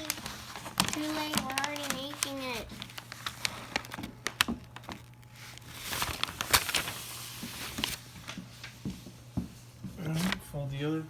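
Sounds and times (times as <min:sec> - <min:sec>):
paper rustling and crinkling: 0:00.0 - 0:08.8, 0:10.0 - 0:10.5.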